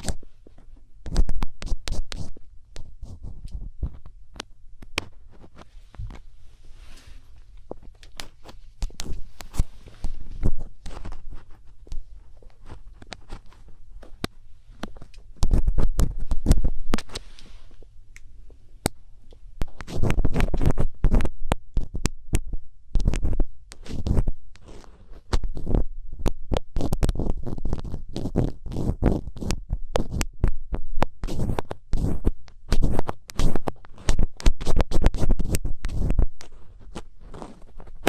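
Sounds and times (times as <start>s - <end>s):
ear picks scraping and tapping: 0.0s - 38.0s.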